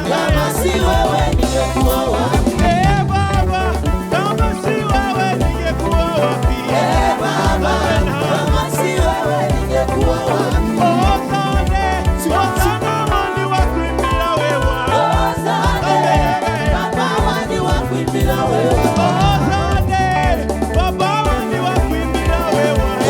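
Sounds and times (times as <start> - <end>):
live gospel band: 0.0 - 23.0
people singing: 0.0 - 23.0
strong moving bass line: 0.0 - 23.0.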